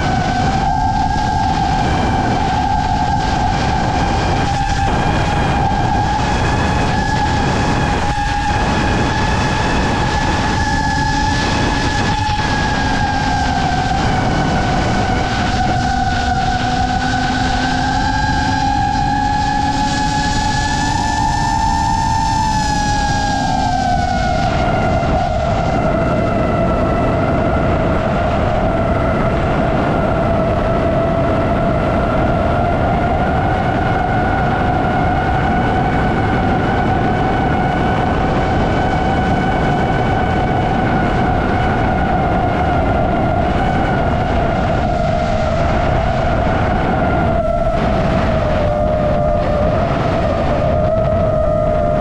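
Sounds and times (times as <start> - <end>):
drone motors whining: 0.0 - 52.0
rushing air noise: 0.0 - 52.0.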